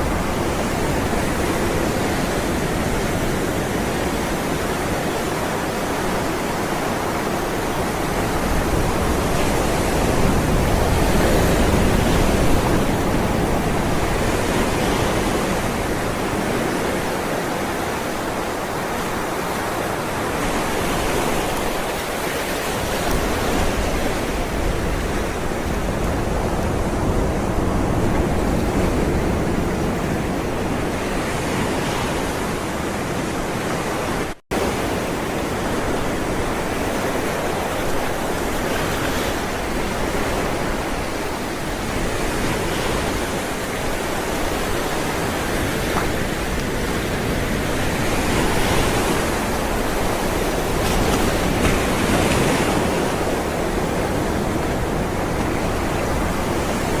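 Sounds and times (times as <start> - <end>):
ocean waves on shore: 0.0 - 57.0.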